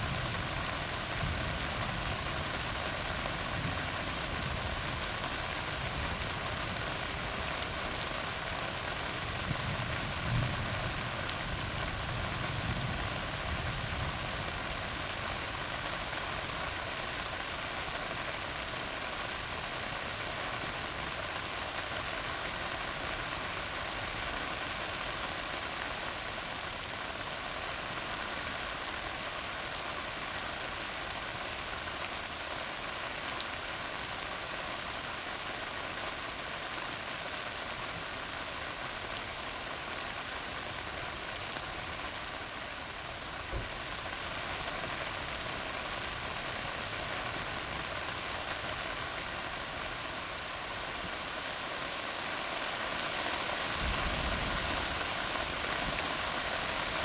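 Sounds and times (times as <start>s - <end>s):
rain pattering on a road: 0.0s - 57.0s.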